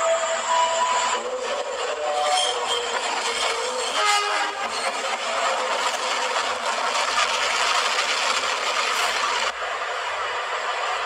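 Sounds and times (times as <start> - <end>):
train rushing and rattling: 0.0 - 11.0.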